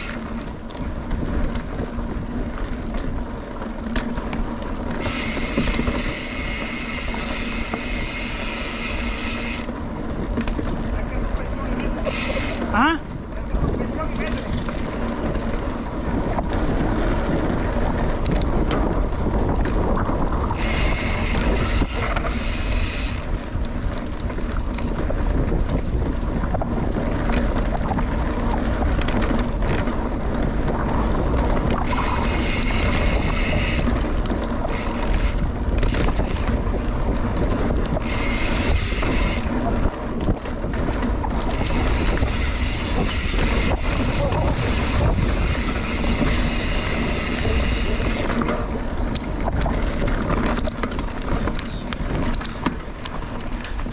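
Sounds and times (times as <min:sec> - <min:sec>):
bike rattling over bumps: 0:00.0 - 0:53.9
tyres rolling over dirt: 0:00.0 - 0:53.9
wind buffeting microphone: 0:00.0 - 0:53.9.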